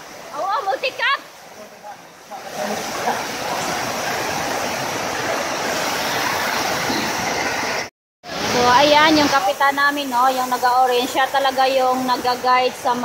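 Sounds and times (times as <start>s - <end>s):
fast-flowing floodwater: 0.0s - 13.0s
heavy rain: 0.0s - 13.0s.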